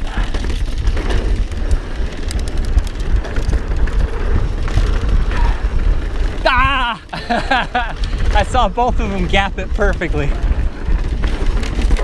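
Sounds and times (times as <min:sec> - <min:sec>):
bike rattling clicks: 0:00.0 - 0:12.0
tyres roaring on dirt: 0:00.0 - 0:12.0
wind buffeting microphone: 0:00.0 - 0:12.0.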